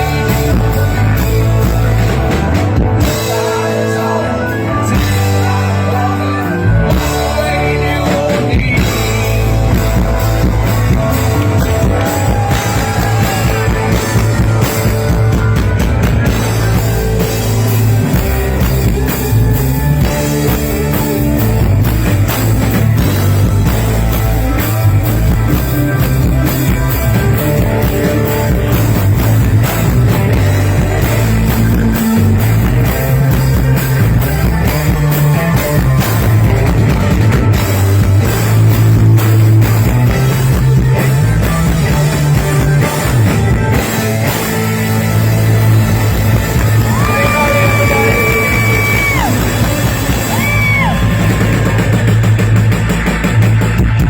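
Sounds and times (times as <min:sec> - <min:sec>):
bass line: 0:00.0 - 0:54.0
drum kit: 0:00.0 - 0:54.0
electric guitar: 0:00.0 - 0:54.0.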